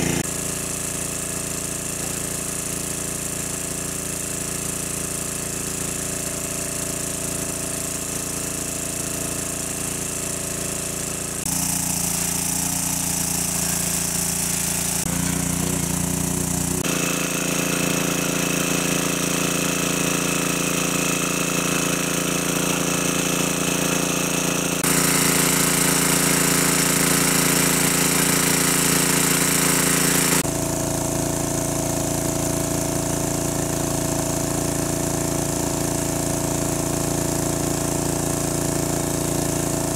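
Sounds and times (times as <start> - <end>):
engine-driven water pump running: 0.0 - 39.9.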